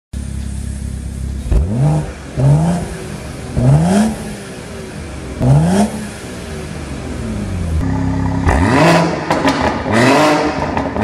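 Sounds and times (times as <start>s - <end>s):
car engine idling and revving: 0.2s - 11.0s.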